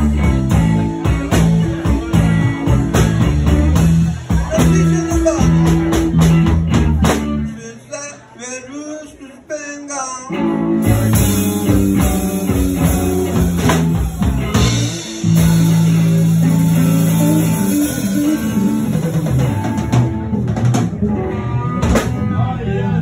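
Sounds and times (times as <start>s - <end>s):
drum kit: 0.0s - 7.6s, 10.4s - 23.0s
electric guitar: 0.0s - 7.6s, 10.2s - 23.0s
bass guitar: 0.0s - 8.2s, 10.0s - 23.0s.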